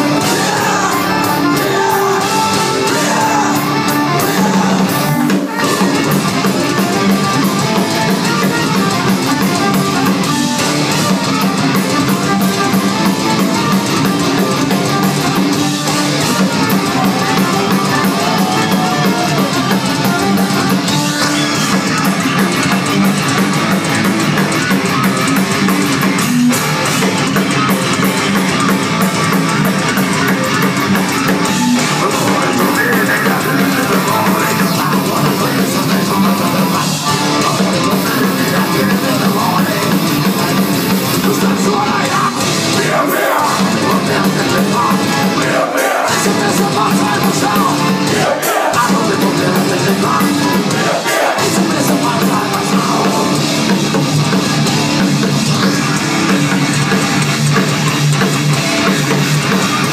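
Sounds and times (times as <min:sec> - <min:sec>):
bass guitar: 0:00.0 - 0:59.9
distorted guitars: 0:00.0 - 0:59.9
drums: 0:00.0 - 0:59.9.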